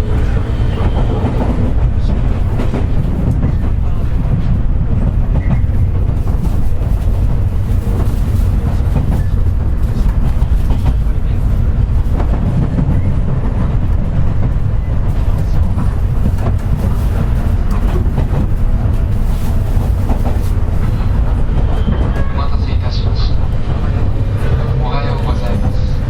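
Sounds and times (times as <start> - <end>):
rail joint clacks: 0.0 - 26.0
train wheels rumbling on rail: 0.0 - 26.0.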